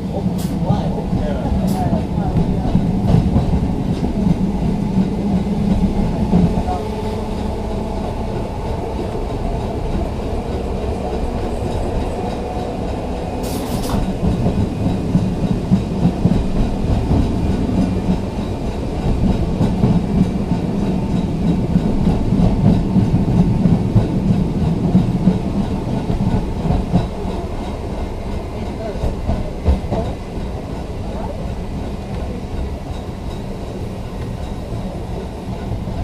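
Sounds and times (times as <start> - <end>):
tram wheels rumbling on rails: 0.0 - 36.0.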